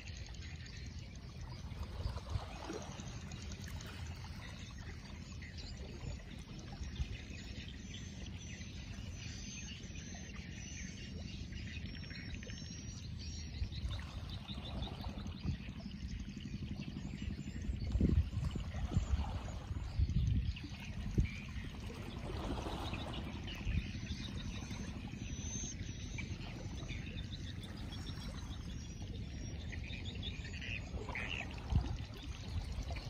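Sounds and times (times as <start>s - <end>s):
birds chirping: 0.0s - 33.0s
wind and water rumble: 0.0s - 33.0s.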